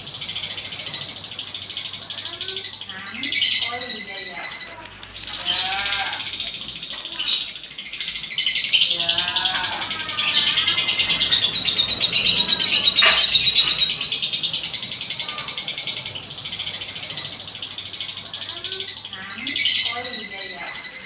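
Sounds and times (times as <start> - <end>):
lovebird rasping chatter: 0.0 - 21.0.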